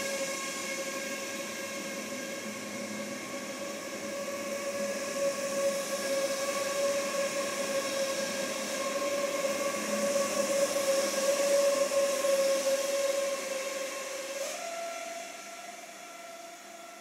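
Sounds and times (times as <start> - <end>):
train running hiss: 0.0 - 16.8
train electric hum: 0.0 - 17.0.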